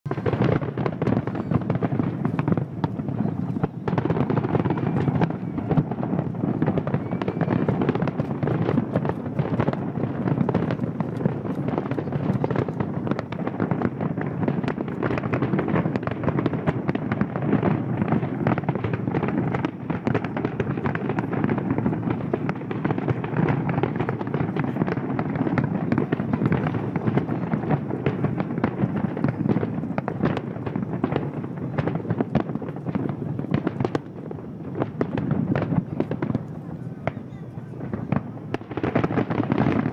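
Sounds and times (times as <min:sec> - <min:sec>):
fireworks bursts and crackles: 0:00.0 - 0:39.9.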